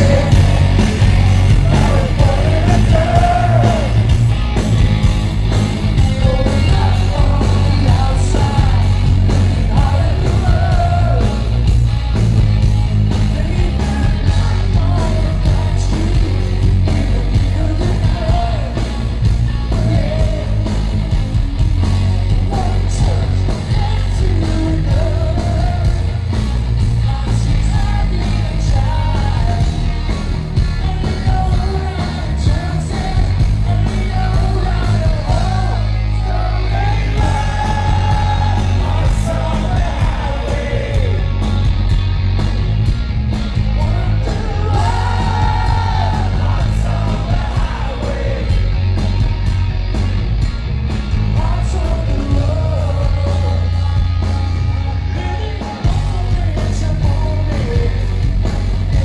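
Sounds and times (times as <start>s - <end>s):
lead vocals: 0.0s - 41.9s, 43.5s - 50.0s, 51.2s - 59.0s
rock band playing live: 0.0s - 59.0s.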